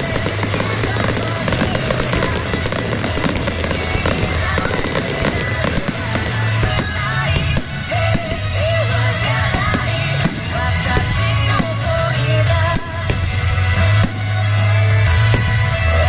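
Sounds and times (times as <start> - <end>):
fireworks bangs and crackles: 0.0 - 16.0
music with steady bass line: 0.0 - 16.0.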